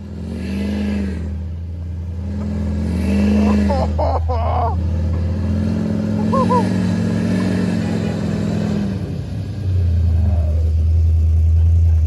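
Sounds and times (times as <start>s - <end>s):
engines revving under load: 0.0s - 12.0s.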